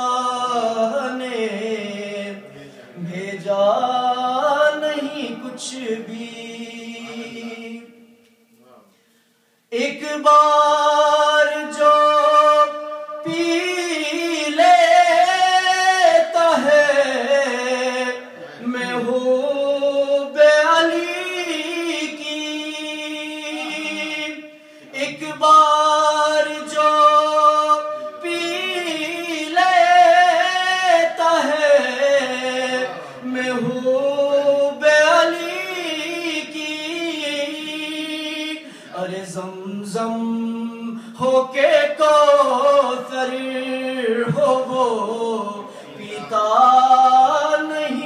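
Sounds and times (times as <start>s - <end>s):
man singing unaccompanied: 0.0s - 8.3s, 9.7s - 48.0s.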